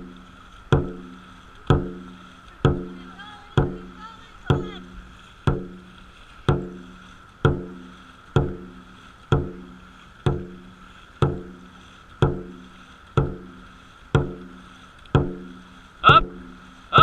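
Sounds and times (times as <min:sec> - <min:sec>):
drum beaten steadily: 0:00.0 - 0:17.0.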